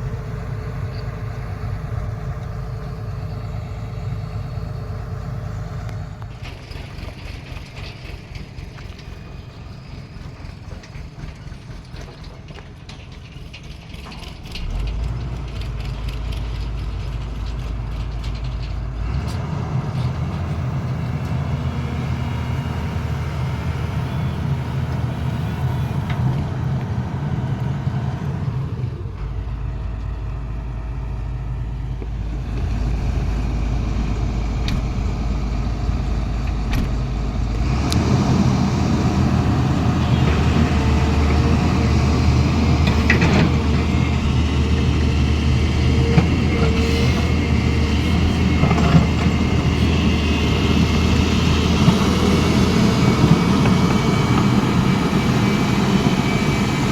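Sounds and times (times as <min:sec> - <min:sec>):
diesel machinery engine running: 0:00.0 - 0:56.9.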